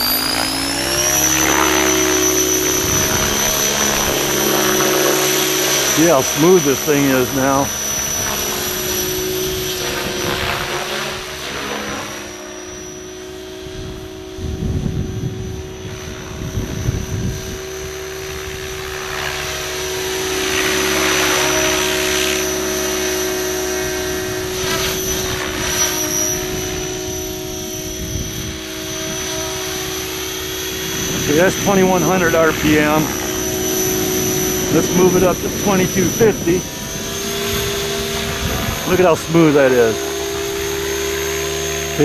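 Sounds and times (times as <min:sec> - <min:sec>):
rotor blades chopping: 0:00.0 - 0:12.5, 0:19.0 - 0:42.0
rc helicopter motor whine: 0:00.0 - 0:42.0.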